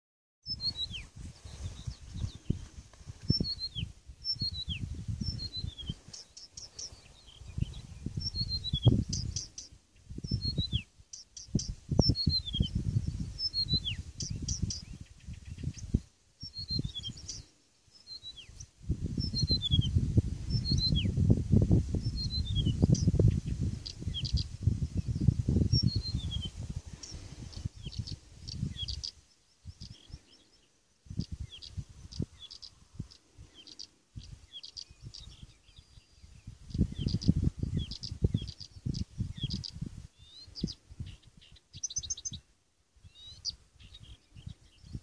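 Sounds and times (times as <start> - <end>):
warbler singing: 0.4 - 45.0.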